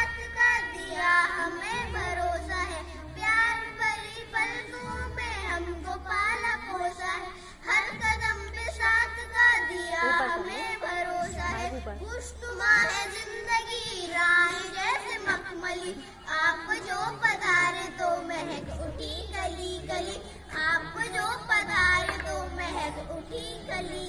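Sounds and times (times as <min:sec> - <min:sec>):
girls singing together: 0:00.0 - 0:24.0.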